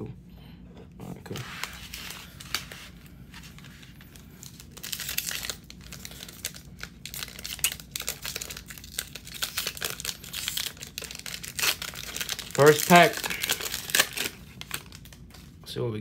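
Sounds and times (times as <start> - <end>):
foil card pack crinkling and tearing: 1.3 - 15.6.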